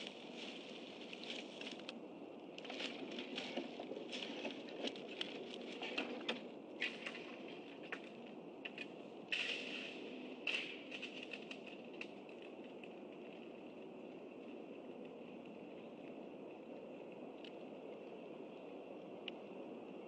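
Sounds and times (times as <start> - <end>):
sticks and grass crackling: 0.0 - 19.4.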